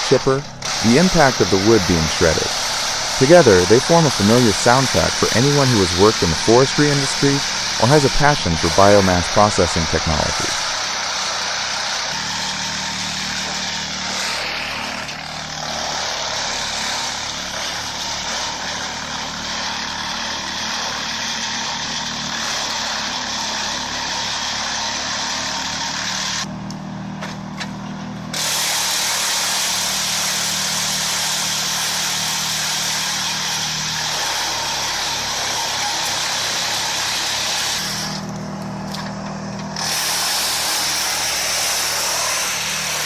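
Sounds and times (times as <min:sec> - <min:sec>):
engine drone: 0:00.0 - 0:19.8, 0:25.6 - 0:43.0
wood chipper grinding hiss: 0:00.0 - 0:43.0.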